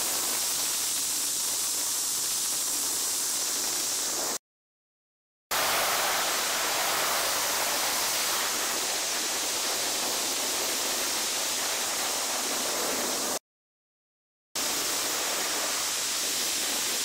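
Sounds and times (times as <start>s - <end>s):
car wash water spray hissing: 0.0s - 4.4s, 5.5s - 13.4s, 14.6s - 17.0s.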